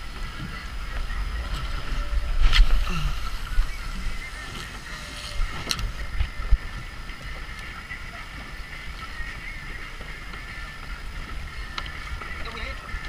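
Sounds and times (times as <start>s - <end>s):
boat motor running: 0.0s - 13.0s
water rushing along hull: 0.0s - 13.0s
wind buffeting microphone: 0.0s - 13.0s.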